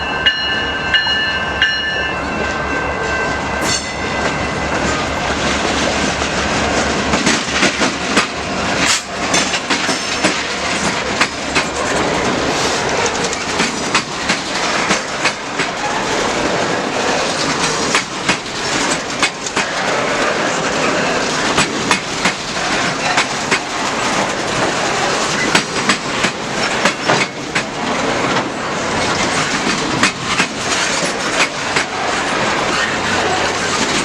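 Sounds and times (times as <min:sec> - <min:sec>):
train cars rolling past: 0:00.0 - 0:34.0
wheels clicking over rail joints: 0:06.1 - 0:34.0.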